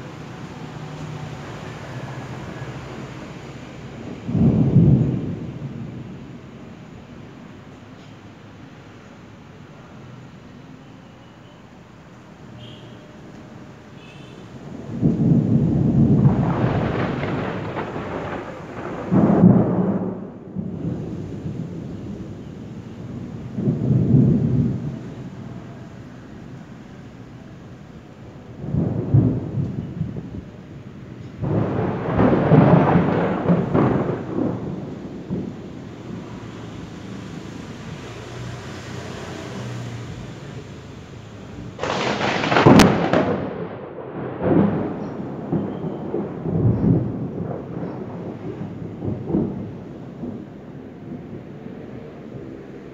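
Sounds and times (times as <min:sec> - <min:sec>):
thunder peal: 0:00.0 - 0:07.0, 0:14.4 - 0:26.1, 0:28.2 - 0:52.9
thunder rumbling: 0:00.0 - 0:09.7, 0:13.8 - 0:52.9.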